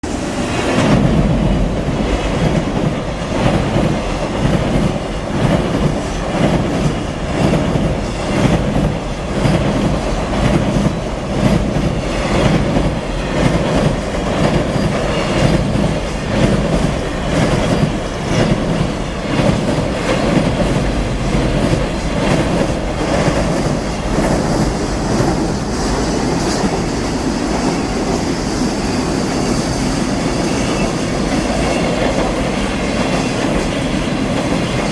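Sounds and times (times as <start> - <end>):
loud train rumble: 0.0 - 34.9
train wheels clacking over rail joints: 0.5 - 34.9.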